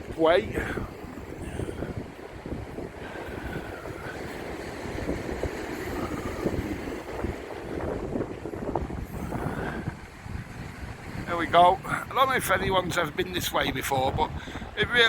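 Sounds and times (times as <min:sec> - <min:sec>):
wind blowing on microphone: 0:00.0 - 0:15.0.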